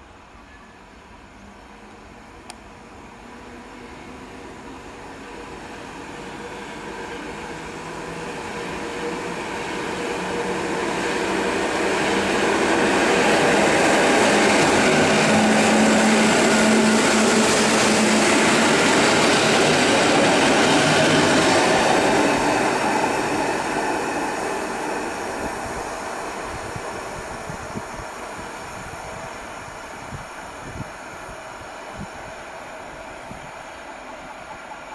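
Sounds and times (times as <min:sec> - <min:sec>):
electric train passing: 0:00.0 - 0:34.9.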